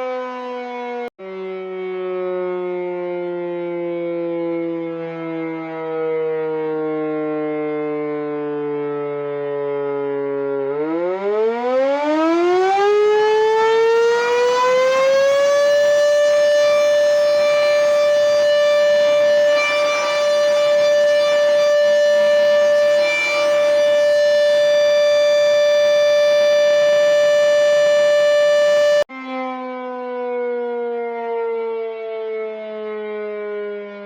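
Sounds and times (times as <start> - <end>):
air raid siren wailing: 0.0 - 34.0.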